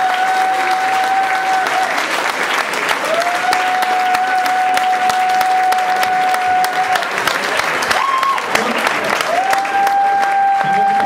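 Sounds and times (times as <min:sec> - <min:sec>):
crowd clapping: 0:00.0 - 0:11.0.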